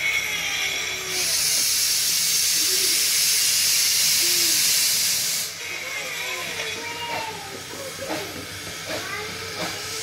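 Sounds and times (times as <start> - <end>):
steam locomotive venting steam: 0.0 - 10.0.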